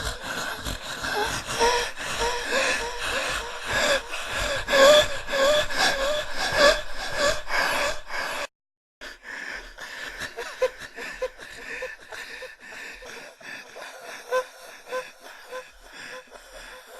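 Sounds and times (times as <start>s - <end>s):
person gasping for breath: 0.0s - 16.9s
person panting: 0.0s - 16.9s.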